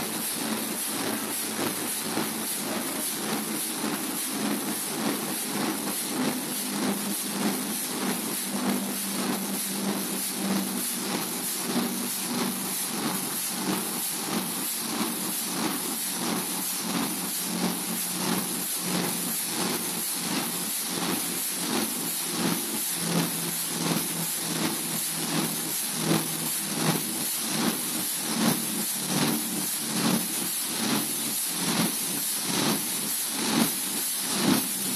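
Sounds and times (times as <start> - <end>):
diesel engine rhythmic beat: 0.0 - 34.9.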